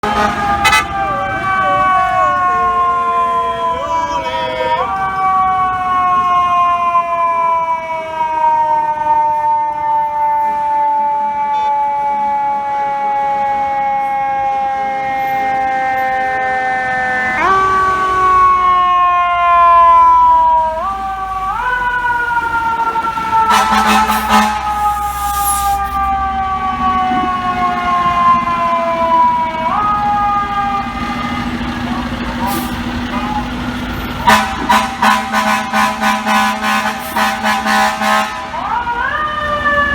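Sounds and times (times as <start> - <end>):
fire truck siren: 0.0 - 39.9
loud street traffic: 0.0 - 39.9.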